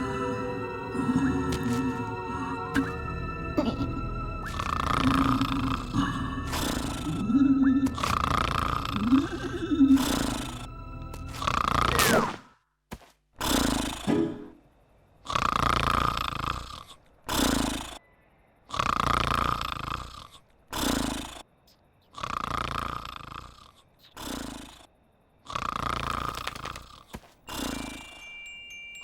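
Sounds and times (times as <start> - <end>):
cartoon character snoring: 0.9 - 3.0, 3.6 - 10.7, 11.3 - 12.4, 13.4 - 14.6, 15.2 - 18.0, 18.7 - 28.2.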